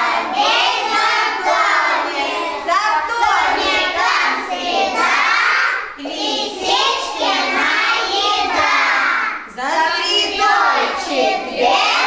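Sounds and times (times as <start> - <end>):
children singing in chorus: 0.0 - 9.5, 10.1 - 12.0.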